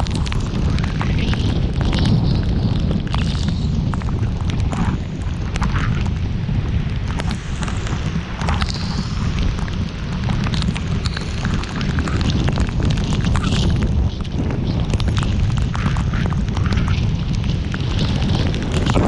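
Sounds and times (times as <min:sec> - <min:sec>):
heavy rain on a car: 0:00.0 - 0:19.0
steady low rumble: 0:00.0 - 0:19.0.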